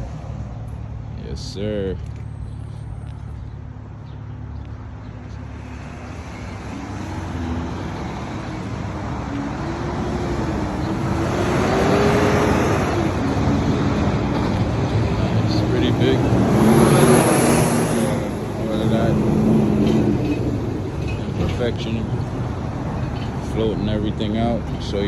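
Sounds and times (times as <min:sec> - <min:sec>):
vehicle engine and tyre noise: 0:00.0 - 0:25.0.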